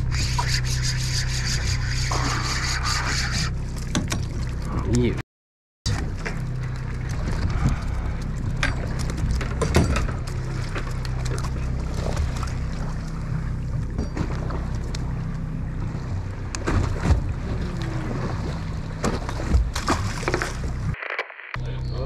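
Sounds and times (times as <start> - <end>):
boat engine hum: 0.0 - 5.2, 5.9 - 21.0, 21.6 - 22.0
water sloshing against hull: 0.0 - 5.2, 5.9 - 21.0.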